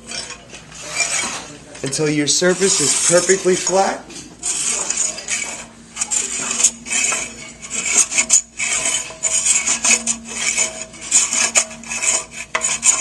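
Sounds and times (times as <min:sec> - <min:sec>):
cutting tool rasping on pipe: 0:00.0 - 0:13.0.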